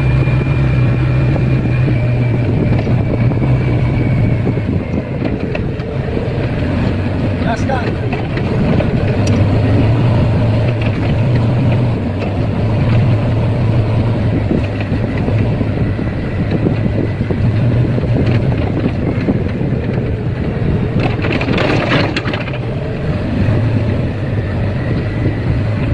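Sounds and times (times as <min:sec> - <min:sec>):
diesel engine droning: 0:00.0 - 0:25.9
rattling clattering noise: 0:04.3 - 0:25.9.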